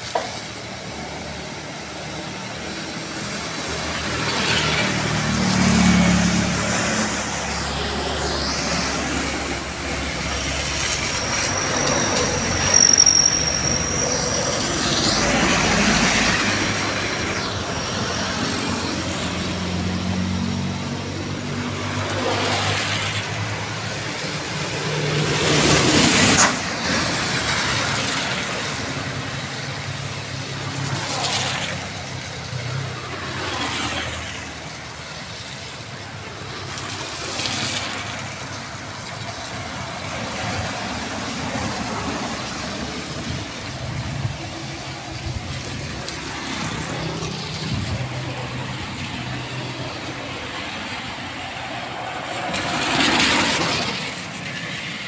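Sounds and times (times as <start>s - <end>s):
tyres hissing on wet road: 0.0s - 55.0s.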